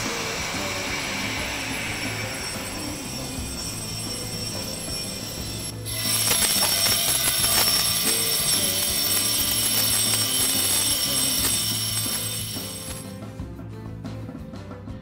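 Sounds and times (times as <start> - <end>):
electric bell ringing: 0.6 - 13.1.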